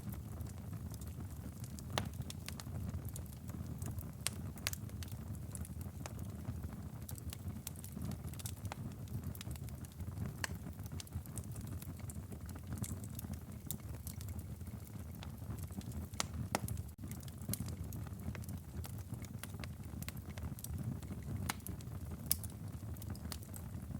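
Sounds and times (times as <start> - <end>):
firewood crackling and popping: 0.0 - 23.9
low rumble of flames: 0.0 - 23.9.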